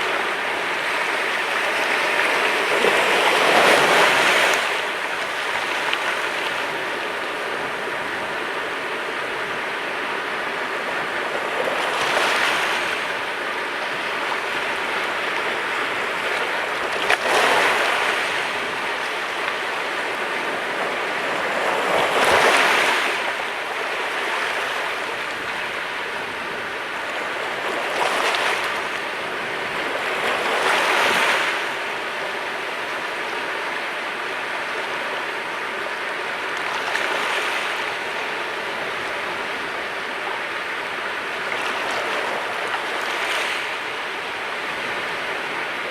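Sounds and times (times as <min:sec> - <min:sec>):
sea waves breaking: 0:00.0 - 0:45.9.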